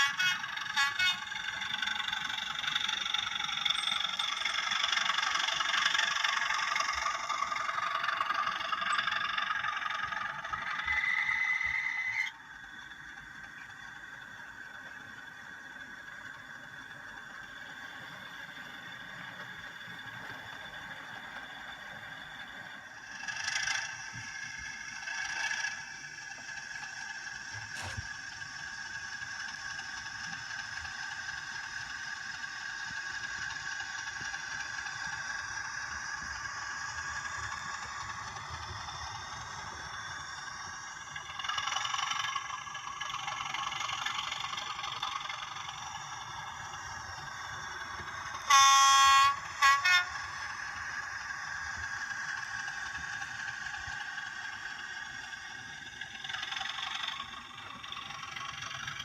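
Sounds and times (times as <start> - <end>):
model train whine and rattle: 0.0 - 59.0.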